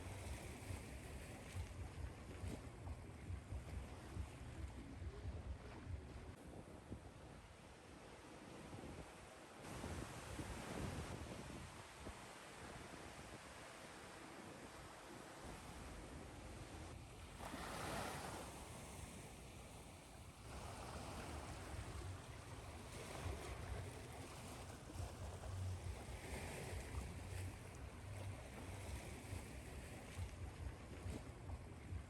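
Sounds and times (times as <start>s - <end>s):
ocean waves washing ashore: 0.0s - 32.0s.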